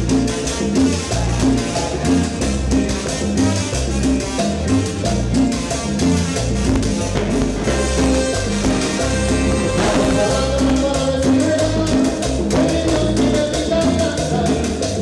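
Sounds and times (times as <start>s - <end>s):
cumbia band playing live: 0.0s - 15.0s.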